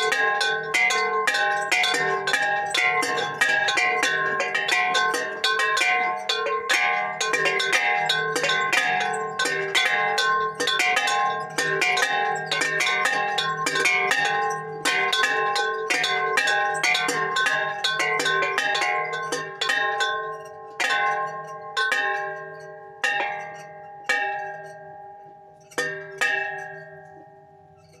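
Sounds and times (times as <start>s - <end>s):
small hanging bells clanging: 0.0s - 28.0s.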